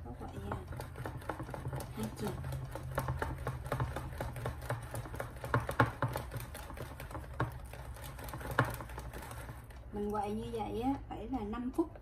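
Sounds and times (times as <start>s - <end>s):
whisk clicking against glass bowl: 0.2s - 10.1s.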